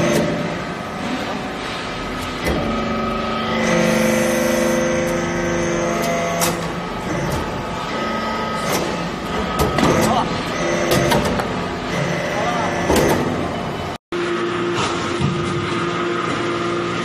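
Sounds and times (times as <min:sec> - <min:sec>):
hydraulic press pump running: 0:00.0 - 0:17.0.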